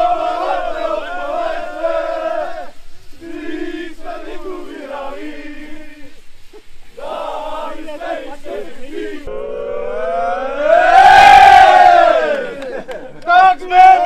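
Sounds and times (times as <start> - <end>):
men chanting in unison: 0.0 - 6.2, 7.0 - 12.9.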